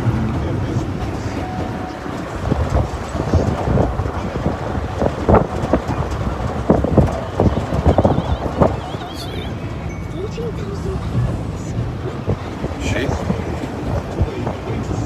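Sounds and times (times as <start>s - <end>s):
road and engine rumble: 0.0s - 15.0s
wind buffeting microphone: 0.0s - 15.0s.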